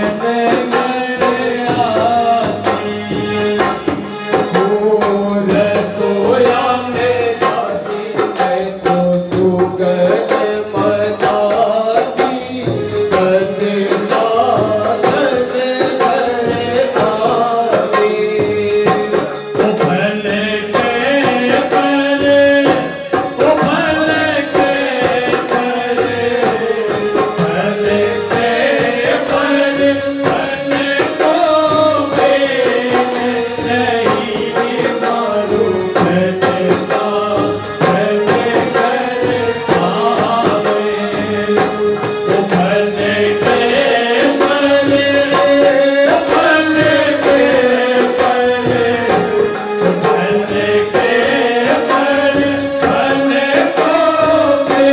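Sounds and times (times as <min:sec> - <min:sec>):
group singing a chant-like melody: 0:00.0 - 0:54.9
hand drum and jingle beat: 0:00.0 - 0:54.9.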